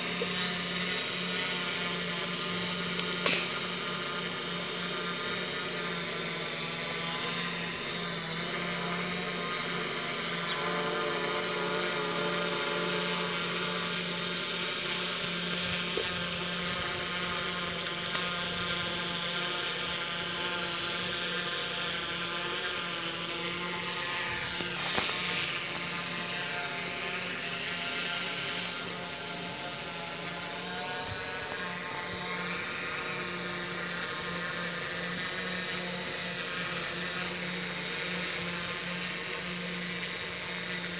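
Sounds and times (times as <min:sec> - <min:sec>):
quadcopter propellers whining: 0:00.0 - 0:40.9.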